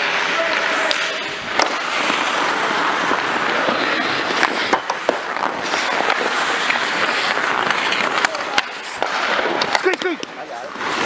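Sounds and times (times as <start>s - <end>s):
hockey sticks and puck clacking: 0.0s - 11.0s
skate blades scraping ice: 0.0s - 11.0s.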